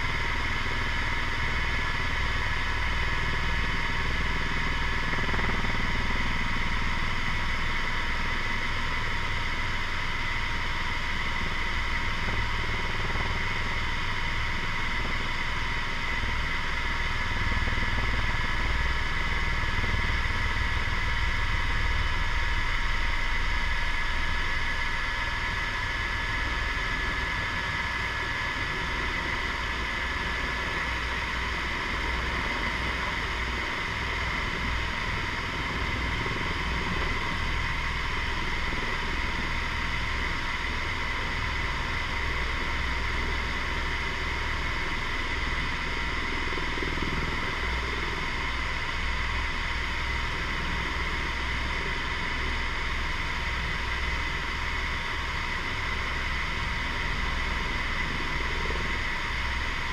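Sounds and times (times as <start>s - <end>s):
helicopter turbine whine: 0.0s - 59.9s
low rotor rumble: 0.0s - 59.9s.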